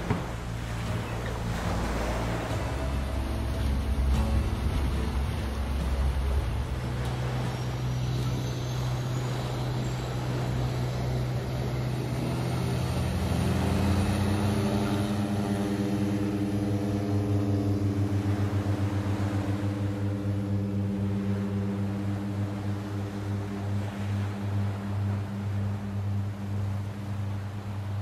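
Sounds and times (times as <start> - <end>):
boat engine hum: 0.0 - 28.0
floatplane propeller drone: 0.0 - 28.0.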